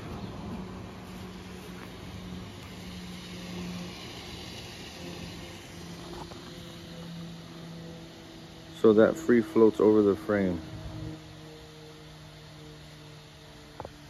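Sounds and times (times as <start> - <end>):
low machine hum: 0.0 - 14.0
outdoor background noise: 0.0 - 14.0.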